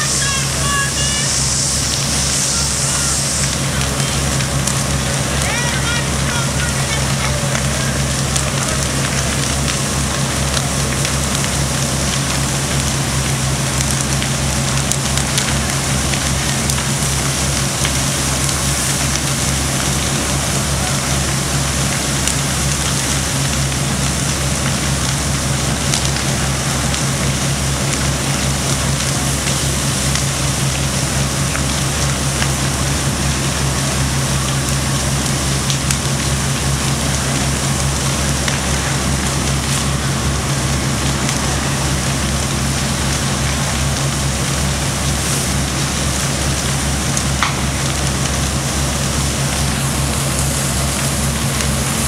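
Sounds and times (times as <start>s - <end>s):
fire crackling and popping: 0.0s - 52.0s
low engine rumble: 0.0s - 52.0s.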